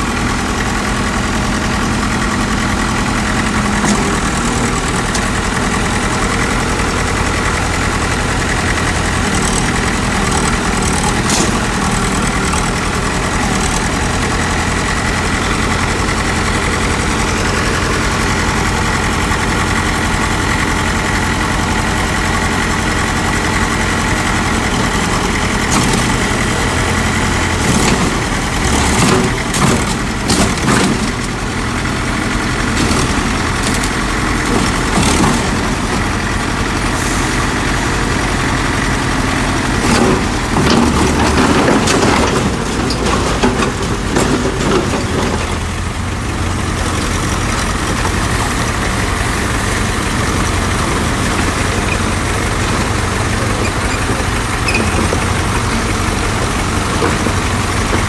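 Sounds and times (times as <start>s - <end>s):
heavy diesel engine running: 0.0s - 58.0s
machinery knocks and clanks: 0.2s - 58.0s.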